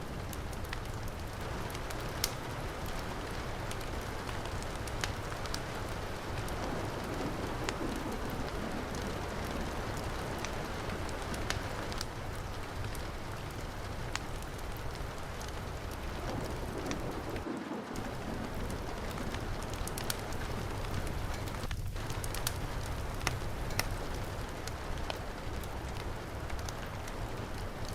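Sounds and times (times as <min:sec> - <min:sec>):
heavy rain: 0:00.0 - 0:27.9
wood fire crackling: 0:00.0 - 0:27.9.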